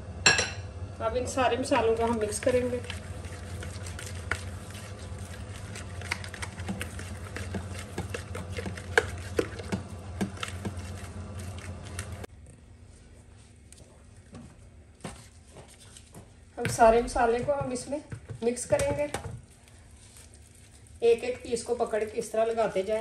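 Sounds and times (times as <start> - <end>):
steady low hum: 0.0 - 23.0
paste stirred in plastic bowl: 1.6 - 12.3, 15.0 - 23.0.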